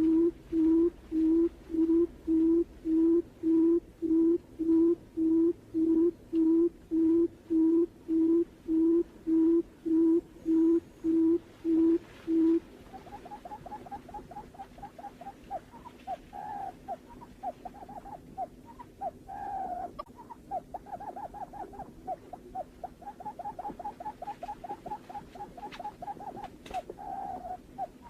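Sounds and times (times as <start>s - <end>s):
bird low hooting call: 0.0s - 28.0s.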